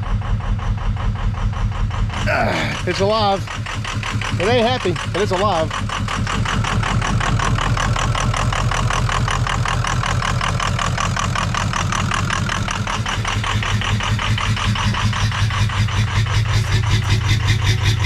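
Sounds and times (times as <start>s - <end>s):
diesel engine running rough: 0.0s - 18.0s.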